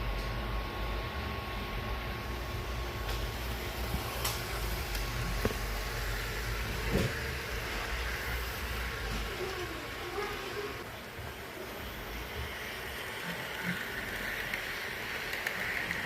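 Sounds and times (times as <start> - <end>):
model train motor hum: 2.3 - 16.0.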